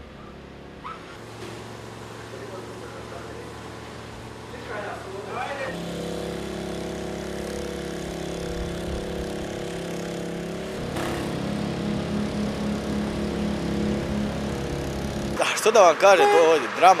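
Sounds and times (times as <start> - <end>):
water pump engine running: 0.0 - 17.0.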